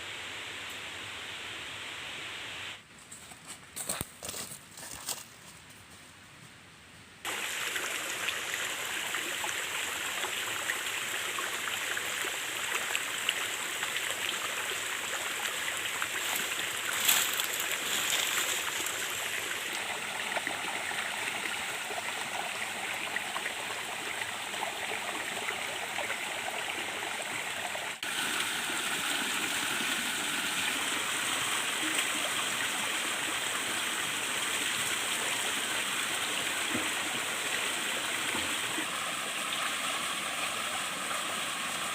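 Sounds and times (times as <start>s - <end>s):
stream running: 7.2s - 41.9s.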